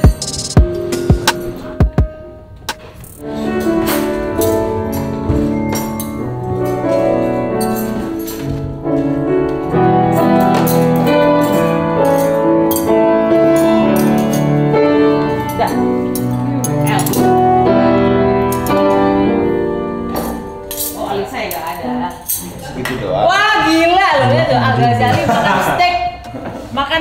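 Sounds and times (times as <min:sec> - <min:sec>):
grand piano playing: 0:00.0 - 0:22.4.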